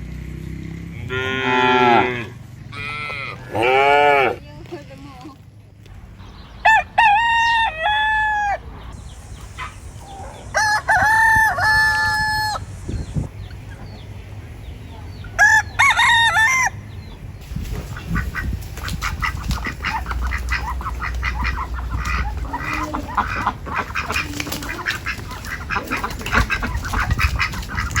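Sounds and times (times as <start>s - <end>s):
roosters crowing: 0.9s - 4.4s, 6.3s - 14.2s, 15.0s - 28.0s
chickens clucking: 4.6s - 28.0s.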